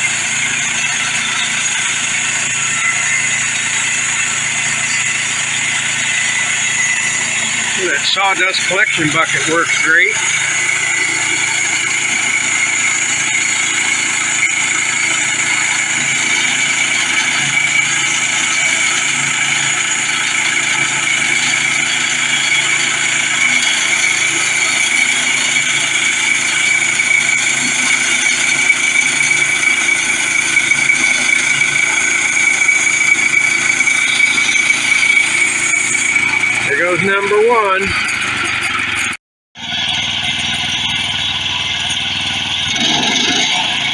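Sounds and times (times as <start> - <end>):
bandsaw mill cutting log: 0.0 - 43.9.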